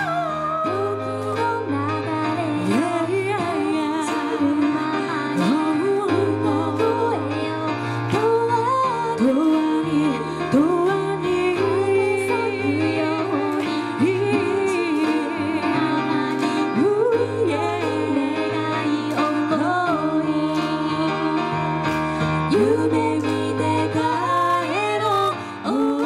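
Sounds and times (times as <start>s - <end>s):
woman singing with vibrato: 0.0s - 26.0s.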